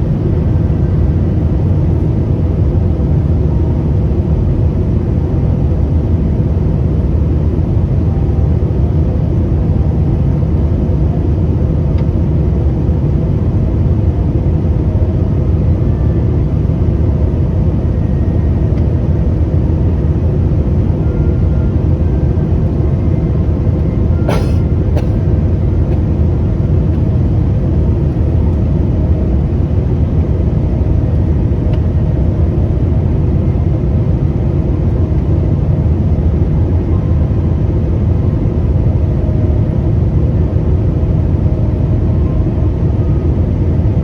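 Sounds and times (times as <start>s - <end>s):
airliner engine and airflow rumble: 0.0s - 44.0s.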